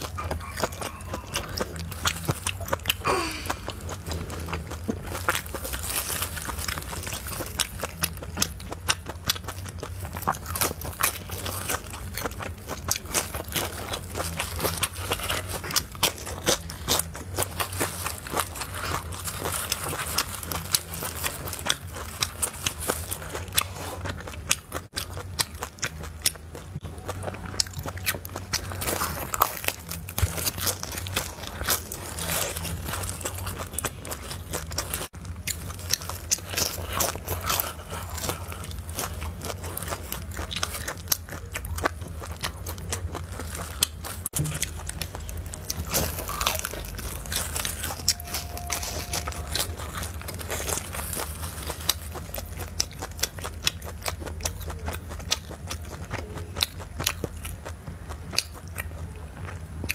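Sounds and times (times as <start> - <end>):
chewing crunches: 0.0 - 59.9
steady low hum: 0.0 - 59.9.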